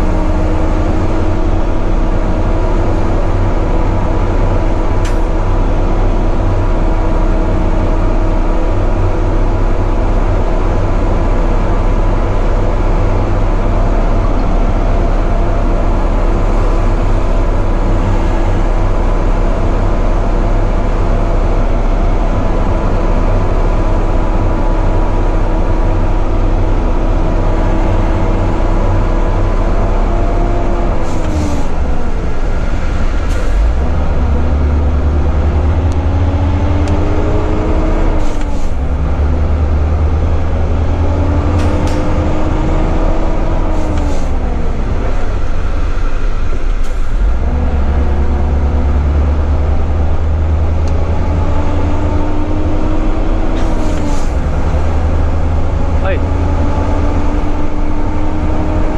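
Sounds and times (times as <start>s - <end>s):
truck diesel engine: 0.0s - 58.9s.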